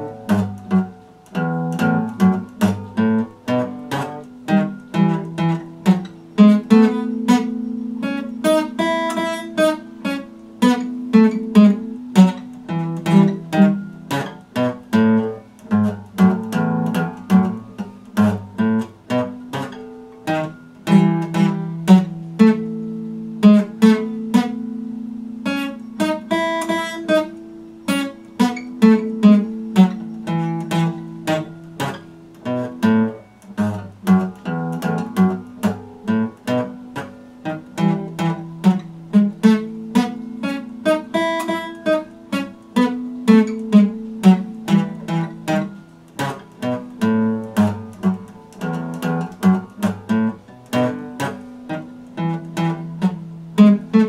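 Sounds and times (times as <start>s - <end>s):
acoustic guitar strummed: 0.0s - 54.0s.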